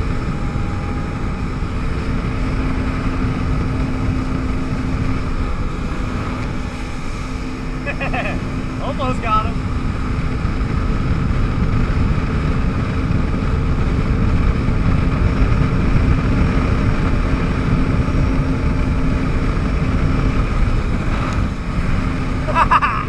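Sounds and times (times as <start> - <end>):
jet ski engine hum: 0.0 - 23.0
wind rush on microphone: 0.0 - 23.0.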